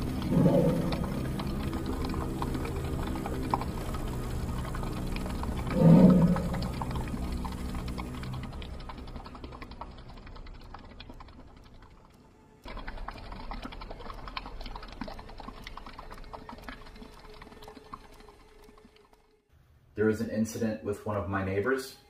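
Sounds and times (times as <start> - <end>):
rapid irregular clicking: 0.0 - 19.5.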